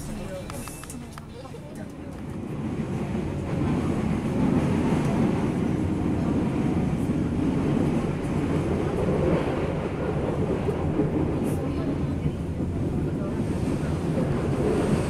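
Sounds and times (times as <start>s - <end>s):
train carriage rumbling: 0.0s - 15.0s.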